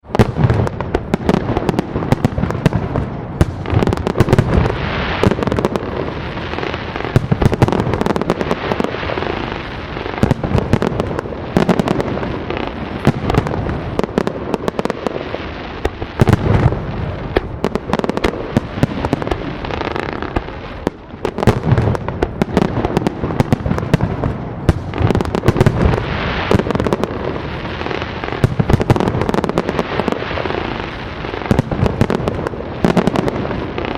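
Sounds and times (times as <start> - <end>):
fireworks bursts and bangs: 0.0 - 33.9
fireworks crackling and popping: 0.0 - 33.9.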